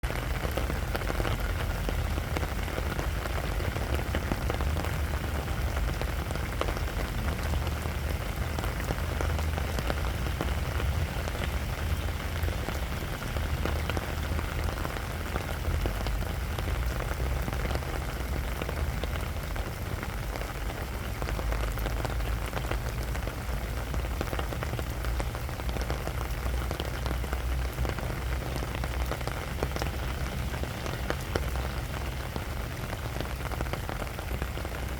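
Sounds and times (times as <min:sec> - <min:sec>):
rain falling on sand: 0:00.0 - 0:34.9.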